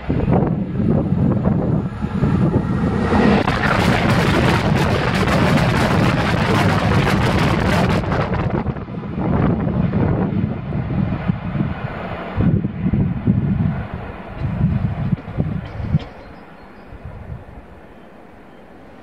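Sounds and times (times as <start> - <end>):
low rumble: 0.0 - 16.0
train rushing over rails: 0.0 - 19.0.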